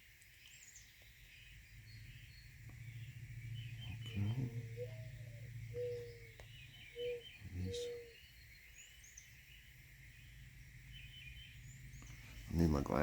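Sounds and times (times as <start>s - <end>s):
small birds chirping faintly: 0.0s - 13.0s
dove cooing: 0.9s - 13.0s.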